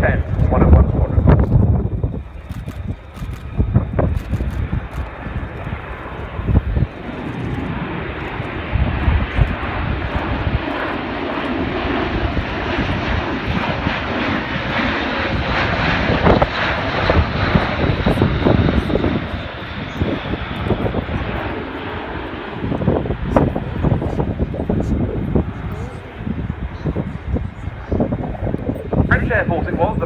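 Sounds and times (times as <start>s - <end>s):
turboprop aircraft flying past: 0.0s - 30.0s.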